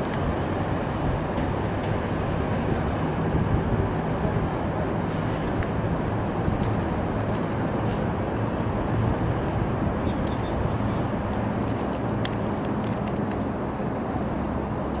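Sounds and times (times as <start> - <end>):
train engine drone and rumble: 0.0 - 15.0
yard background noise: 0.0 - 15.0.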